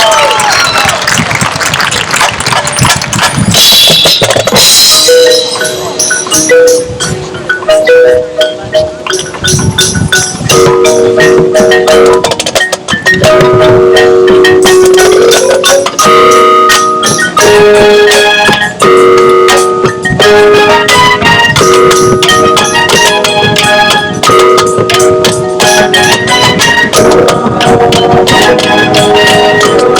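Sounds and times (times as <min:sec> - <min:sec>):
drums: 0:00.0 - 0:29.9
mallet percussion: 0:02.7 - 0:29.9
marching band music: 0:02.7 - 0:29.9.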